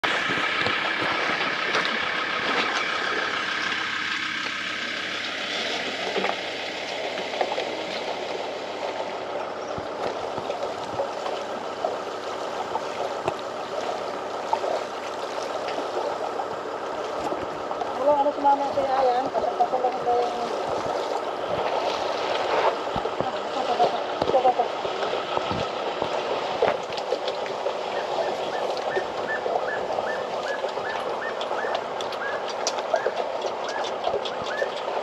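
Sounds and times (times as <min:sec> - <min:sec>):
water lapping against hull: 0:00.0 - 0:35.0.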